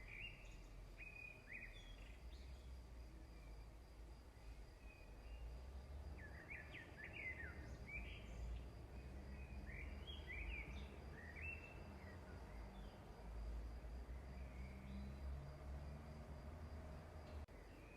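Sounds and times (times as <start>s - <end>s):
faint bird chirping: 0.0s - 16.2s, 17.2s - 17.9s.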